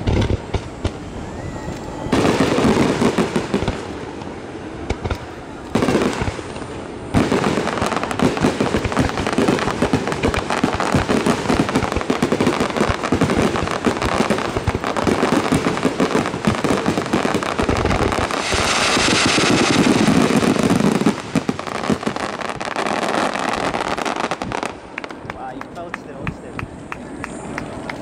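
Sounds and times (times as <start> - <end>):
firework bangs and crackles: 0.0 - 28.0.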